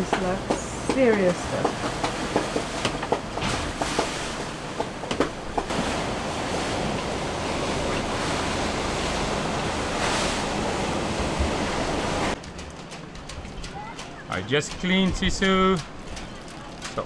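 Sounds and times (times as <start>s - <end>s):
rough sea breaking: 0.0s - 17.0s.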